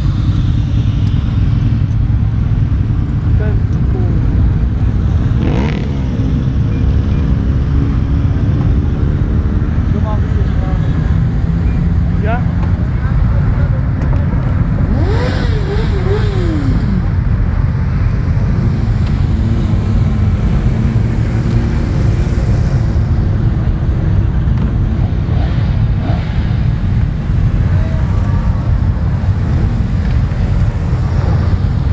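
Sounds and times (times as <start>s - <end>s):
motorcycle engine revving: 0.0s - 12.9s, 13.9s - 31.9s
motorcycle engines running: 0.0s - 31.9s.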